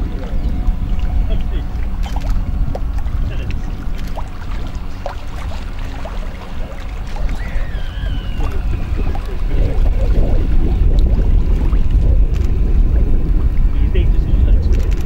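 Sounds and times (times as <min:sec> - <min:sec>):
outboard motor rumbling: 0:00.0 - 0:15.0.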